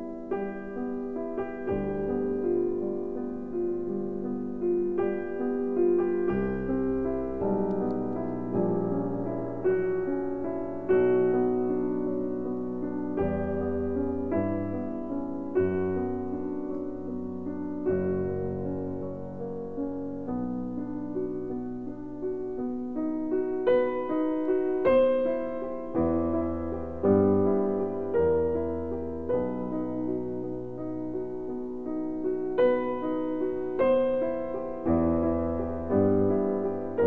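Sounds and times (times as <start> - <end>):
slow piano music: 0.0 - 37.0.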